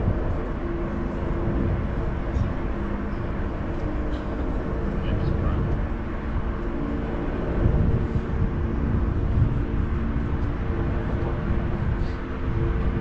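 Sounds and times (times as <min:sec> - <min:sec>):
machinery hum: 0:00.0 - 0:13.0
wind rumble on microphone: 0:00.0 - 0:13.0.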